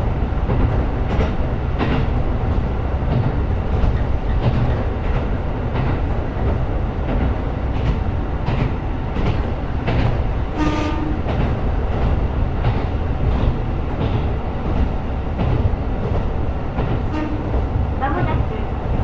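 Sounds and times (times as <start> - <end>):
train engine and wheel rumble: 0.0 - 19.0
wheels clacking over rail joints: 0.4 - 19.0.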